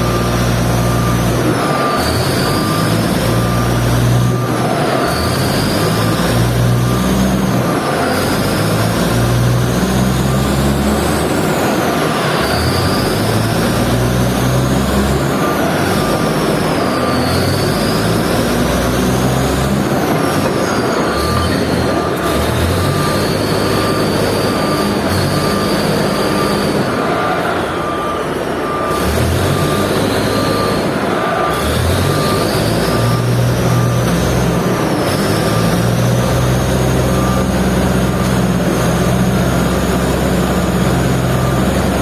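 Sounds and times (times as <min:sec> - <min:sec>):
heavy diesel machinery rumbling: 0:00.0 - 0:42.0
high squealing tones: 0:00.0 - 0:42.0
rapid high beeping alarm: 0:00.0 - 0:42.0.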